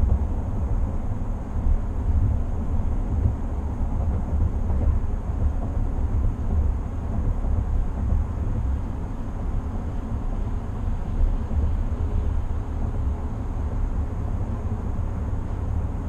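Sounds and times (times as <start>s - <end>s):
road rumble inside a vehicle: 0.0s - 16.0s.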